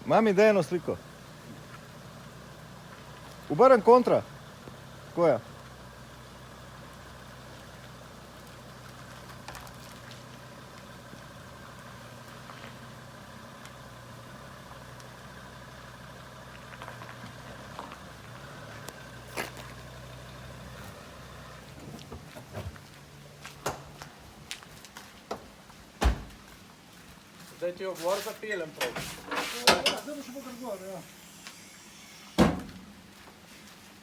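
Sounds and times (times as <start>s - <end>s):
car engine idling: 0.0s - 24.6s, 28.5s - 33.4s.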